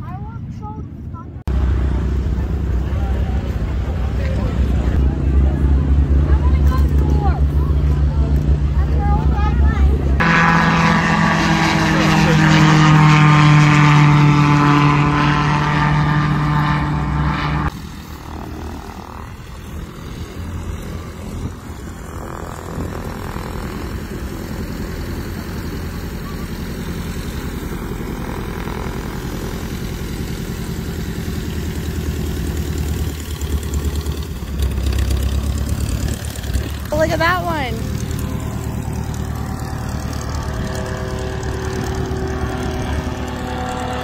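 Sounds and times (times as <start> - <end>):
distant aircraft engines humming: 0.0 - 44.0
propeller aircraft engine drone: 0.0 - 44.0.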